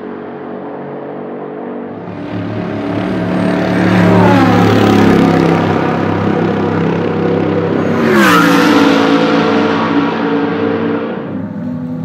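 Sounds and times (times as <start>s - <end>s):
race car engine at low revs: 0.0s - 12.0s.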